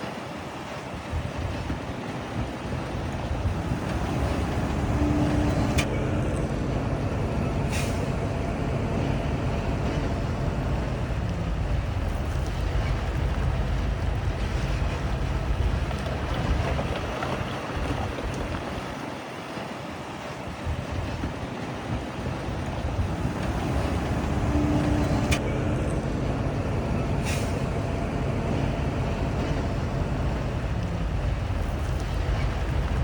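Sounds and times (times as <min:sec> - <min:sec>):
heavy machinery diesel engines rumbling: 0:00.0 - 0:33.0.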